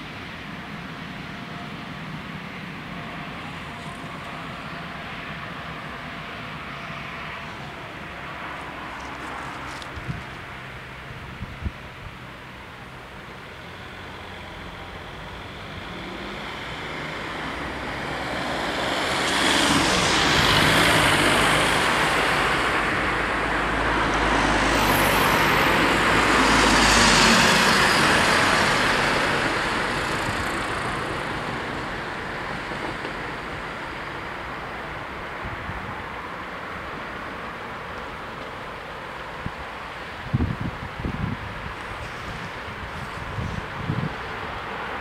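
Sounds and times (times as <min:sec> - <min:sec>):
cars driving past: 0:02.5 - 0:45.0.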